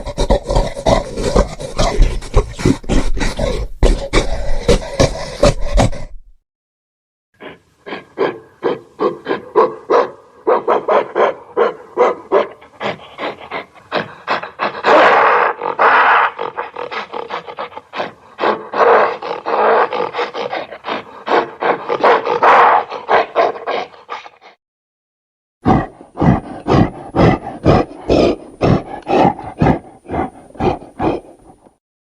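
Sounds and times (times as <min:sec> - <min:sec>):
gorilla roaring: 0:00.0 - 0:06.2, 0:07.4 - 0:24.6, 0:25.6 - 0:31.8.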